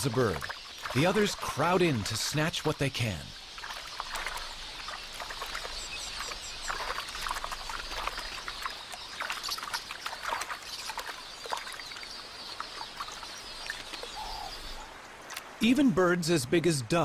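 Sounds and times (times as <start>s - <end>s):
high bird twittering: 0.0s - 14.9s
splashing in shallow water: 0.0s - 15.8s.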